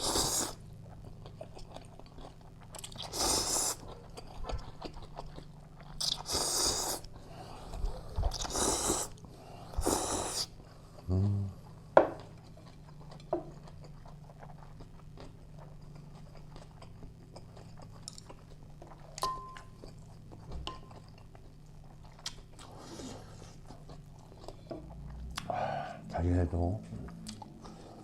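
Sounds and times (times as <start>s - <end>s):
person chewing food: 0.0s - 11.1s, 11.7s - 26.1s, 27.1s - 28.0s
faint low hum: 0.0s - 28.0s.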